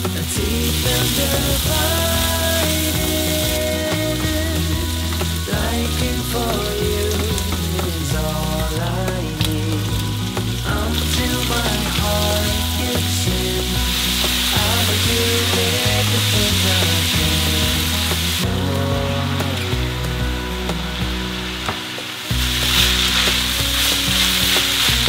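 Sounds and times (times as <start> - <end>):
background music with bass line: 0.0 - 25.0
pork and vegetables sizzling in wok: 0.0 - 25.0.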